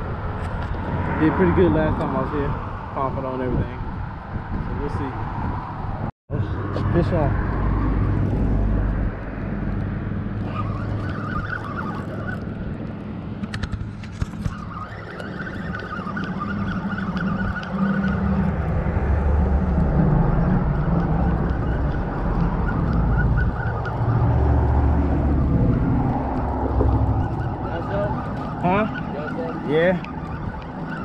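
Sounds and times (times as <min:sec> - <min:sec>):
traffic rumble on bridge: 0:00.0 - 0:31.0.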